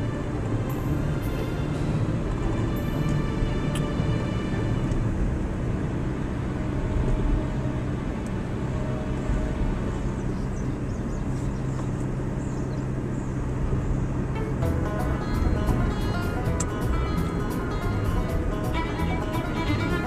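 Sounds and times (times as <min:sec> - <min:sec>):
car engine hum: 0:00.0 - 0:20.0
tyre noise on road: 0:00.0 - 0:20.0.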